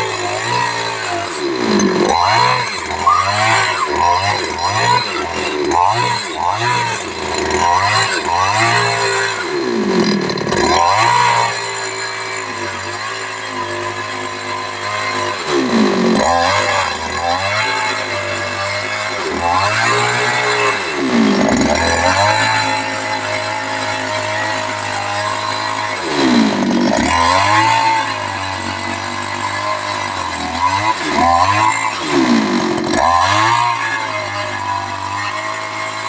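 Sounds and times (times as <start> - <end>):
chainsaw engine revving: 0.0 - 36.0.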